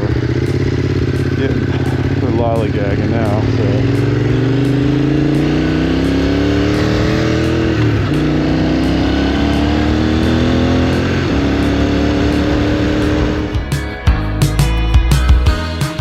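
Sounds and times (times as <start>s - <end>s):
motorcycle engine revving through gears: 0.0s - 14.0s.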